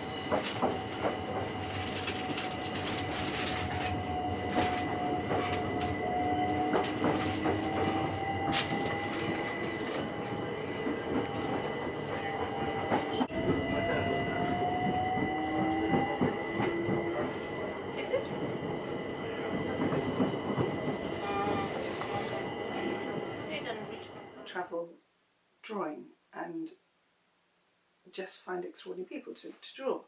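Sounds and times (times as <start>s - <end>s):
train rumble inside carriage: 0.0s - 24.5s.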